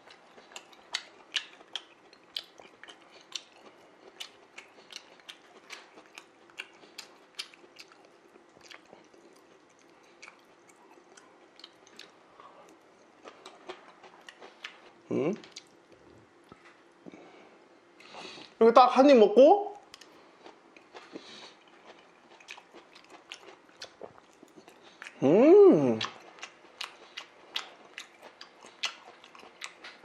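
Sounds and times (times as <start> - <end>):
chewing crisp lettuce: 0.0 - 16.9, 19.8 - 30.0.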